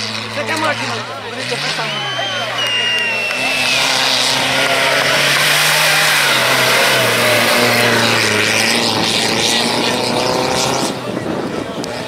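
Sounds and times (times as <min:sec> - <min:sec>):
off-road vehicle engine running hard: 0:00.0 - 0:12.0.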